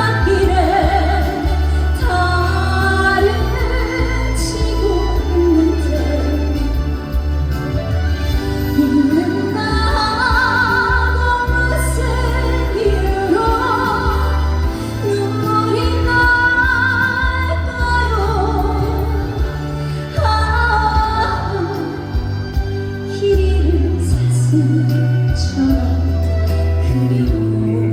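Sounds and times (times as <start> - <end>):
backing music with bass line: 0.0 - 27.9
woman singing with vibrato: 0.0 - 27.9.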